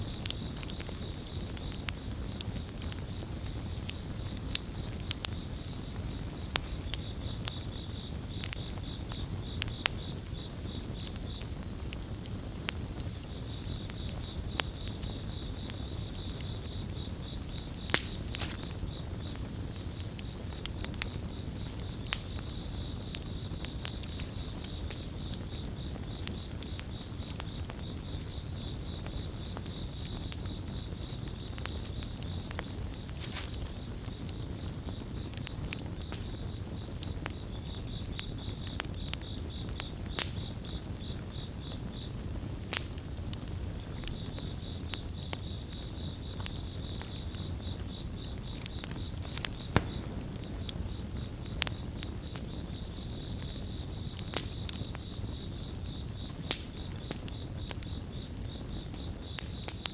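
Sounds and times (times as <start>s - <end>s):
campfire crackling and popping: 0.0s - 59.9s
crickets chirping: 0.1s - 59.9s.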